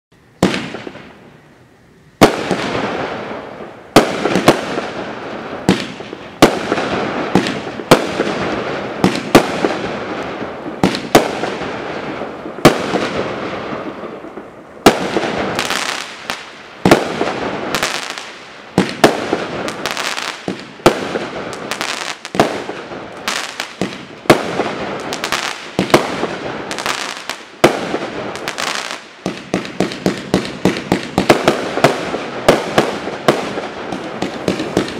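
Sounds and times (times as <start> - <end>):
firework bangs: 0.4 - 1.3, 2.2 - 34.9.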